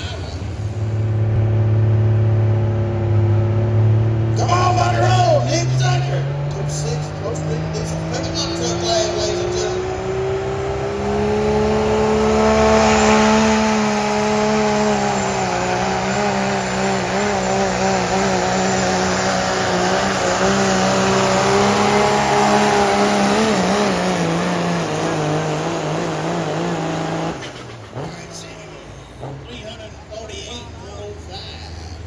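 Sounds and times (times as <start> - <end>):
diesel engine at high revs: 0.0 - 32.0.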